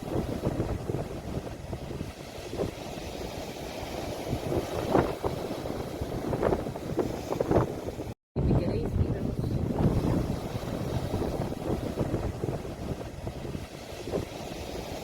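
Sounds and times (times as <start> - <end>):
surf washing ashore: 0.0 - 15.0.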